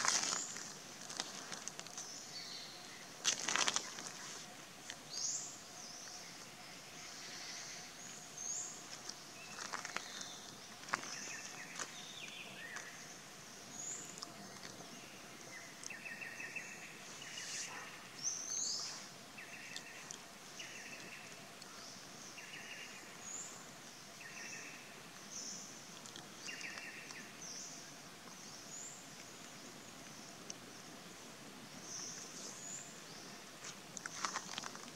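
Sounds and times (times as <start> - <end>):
faint steady hiss: 0.0 - 34.9.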